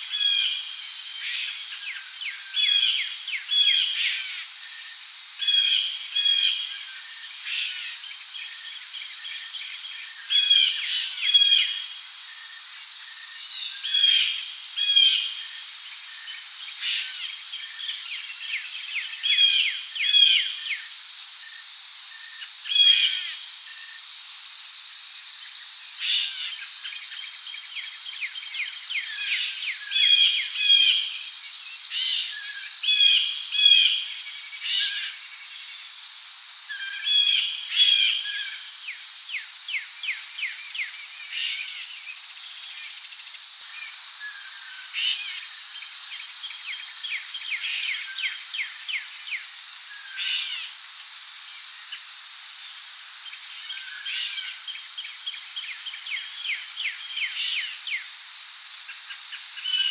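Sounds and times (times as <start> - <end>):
crickets droning: 0.0 - 59.9.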